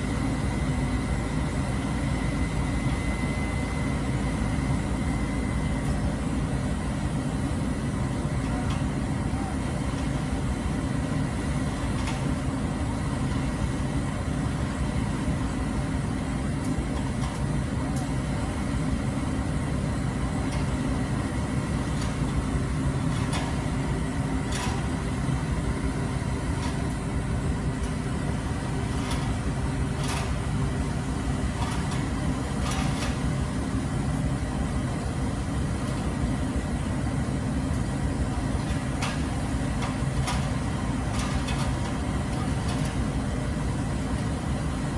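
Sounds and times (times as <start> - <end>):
crane engine running: 0.0 - 44.9.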